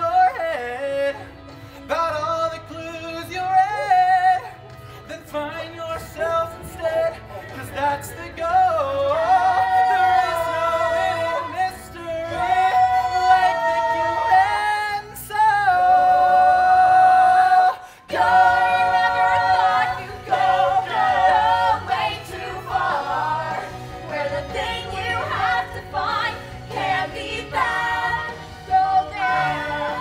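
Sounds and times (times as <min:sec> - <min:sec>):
ensemble singing show tune: 0:00.0 - 0:30.0
musical accompaniment: 0:00.0 - 0:30.0.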